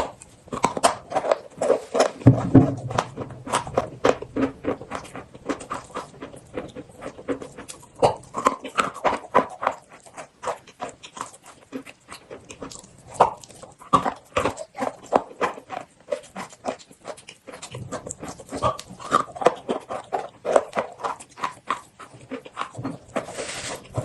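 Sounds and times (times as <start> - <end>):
chewing and crunching: 0.0 - 24.0
mouth clicks: 2.9 - 24.0.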